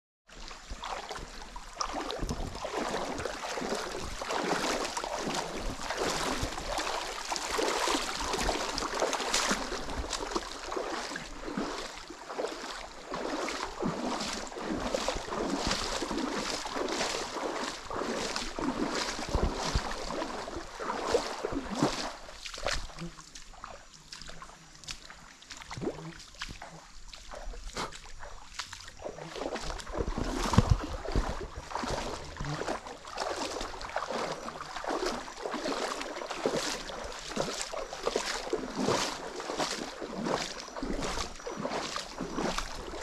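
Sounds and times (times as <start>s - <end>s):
water splashing from wading: 0.3s - 43.0s.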